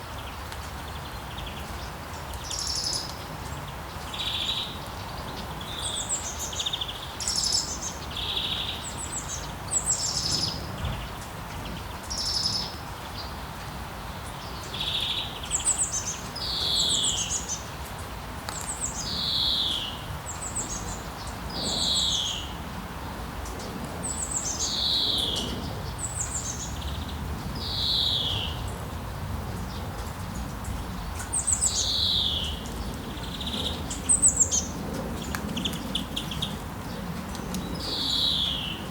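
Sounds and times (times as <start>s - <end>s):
rain hiss: 0.0s - 38.9s
songbird singing: 0.0s - 38.9s.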